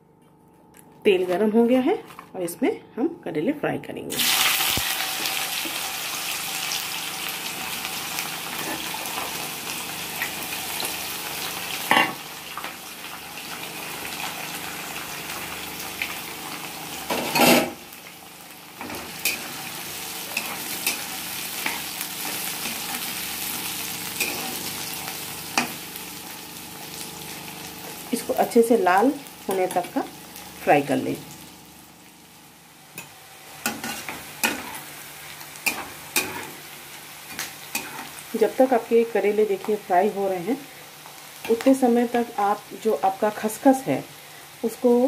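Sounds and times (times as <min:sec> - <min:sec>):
vegetables sizzling in oil: 0:04.1 - 0:45.0.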